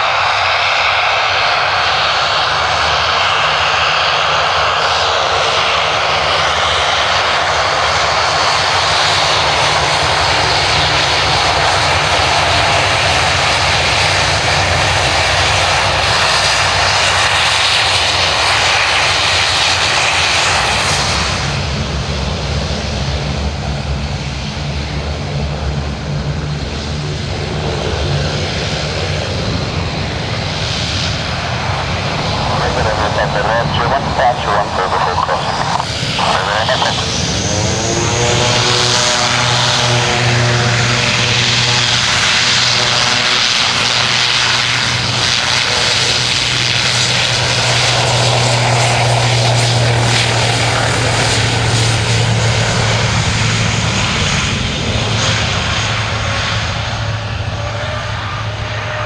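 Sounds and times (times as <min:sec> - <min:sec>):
propeller drone: 0:00.0 - 0:59.0.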